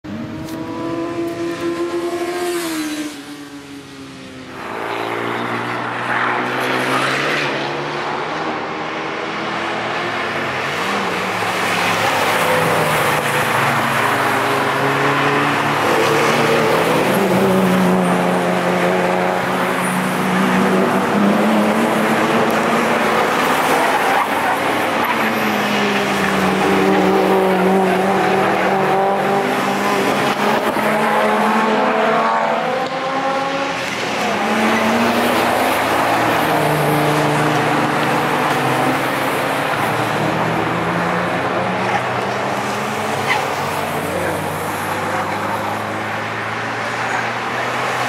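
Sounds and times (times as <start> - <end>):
sports car engines passing: 0.1 - 48.0.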